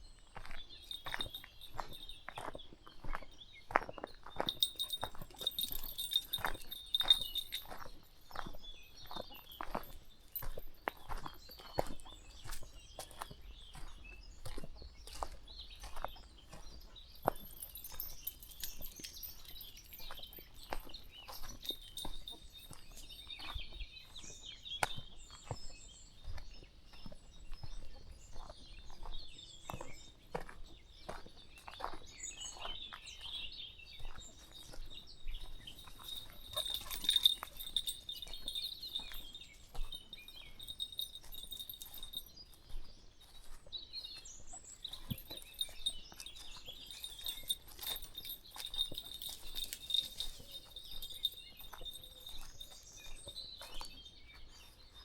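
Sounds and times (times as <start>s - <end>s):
birdsong and chirping: 0.0s - 55.0s
footsteps crunching on a path: 0.0s - 55.0s.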